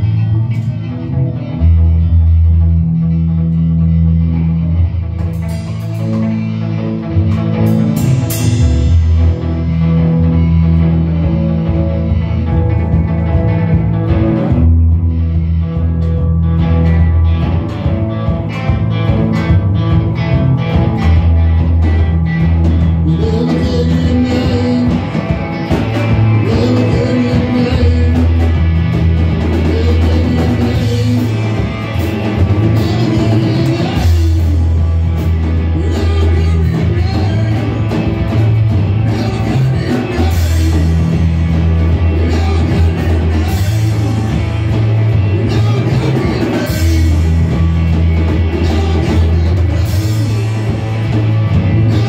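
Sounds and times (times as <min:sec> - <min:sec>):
drum kit: 0:00.0 - 0:52.0
electric bass low notes: 0:00.0 - 0:52.0
electric guitar: 0:00.0 - 0:52.0.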